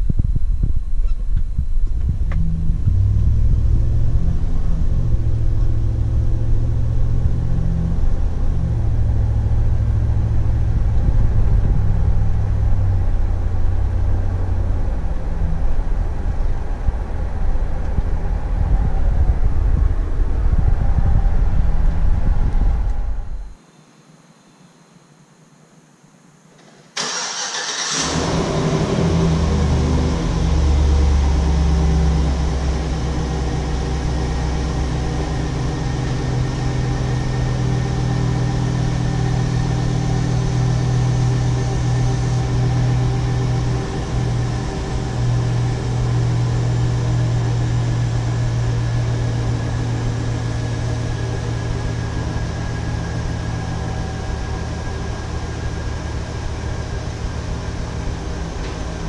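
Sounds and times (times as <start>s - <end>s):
car engine idling: 0.0s - 19.0s, 27.0s - 59.0s.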